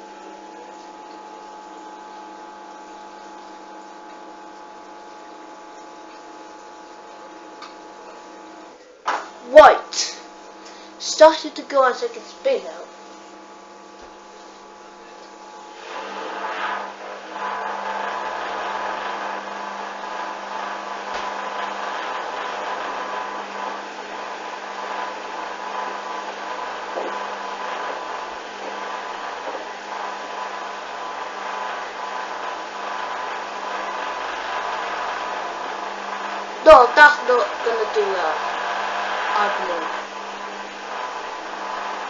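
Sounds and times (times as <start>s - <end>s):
washing machine spinning: 0.0s - 42.0s.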